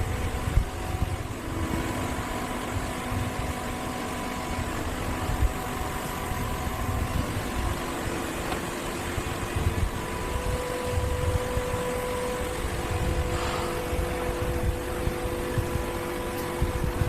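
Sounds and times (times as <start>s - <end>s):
machinery rumble and whine: 0.0s - 17.0s.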